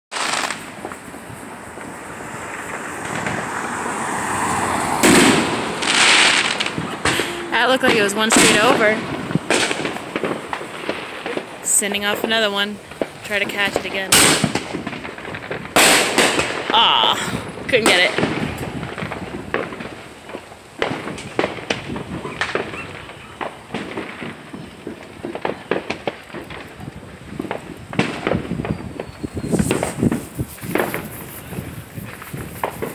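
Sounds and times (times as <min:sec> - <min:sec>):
faint firework pops: 0:00.1 - 0:03.8, 0:04.4 - 0:16.9, 0:17.7 - 0:32.9
fireworks crackle: 0:00.1 - 0:32.9.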